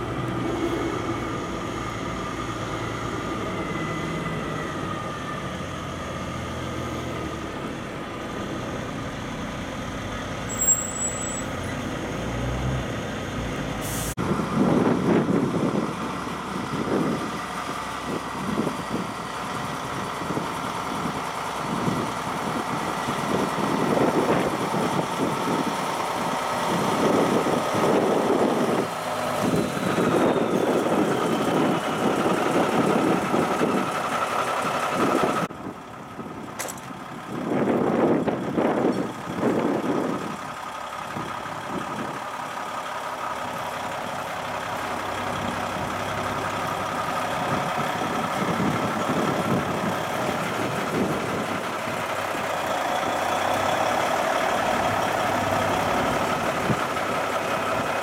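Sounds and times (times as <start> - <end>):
truck engine idling: 0.0 - 12.2, 13.1 - 58.0
truck diesel engines running: 0.0 - 58.0.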